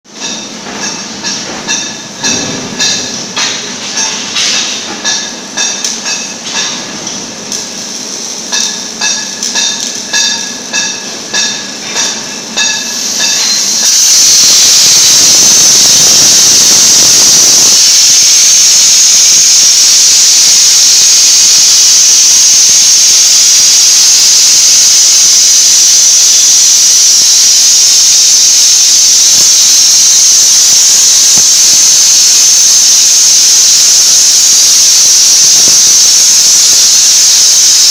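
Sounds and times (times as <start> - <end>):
rhythmic pulsing machine tones: 0.1 - 37.9
plasma torch cutting steel hiss: 0.2 - 37.9.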